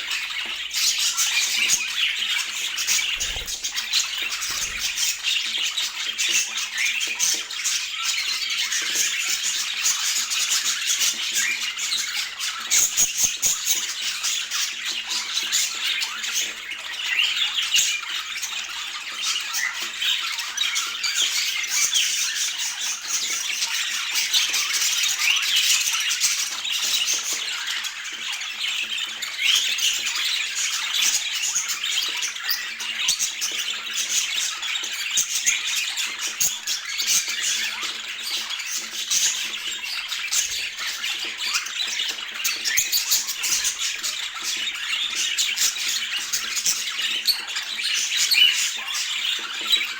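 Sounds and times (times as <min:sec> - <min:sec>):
budgerigars chattering: 0:00.0 - 0:21.0, 0:26.4 - 0:49.9.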